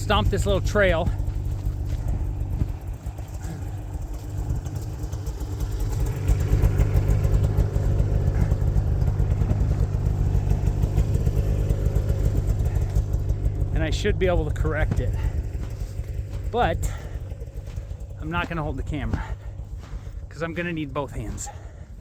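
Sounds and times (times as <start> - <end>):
snowmobile engine idling: 0.0 - 22.0.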